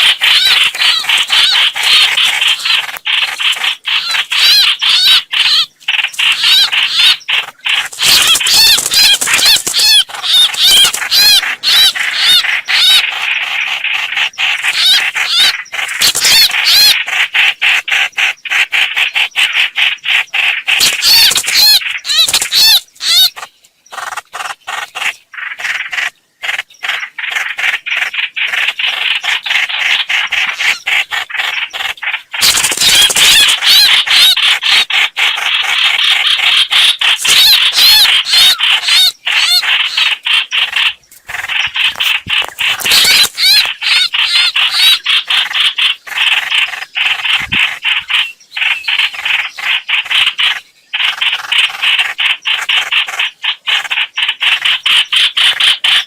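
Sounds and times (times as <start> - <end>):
recorded bird chattering calls: 0.0 - 56.0.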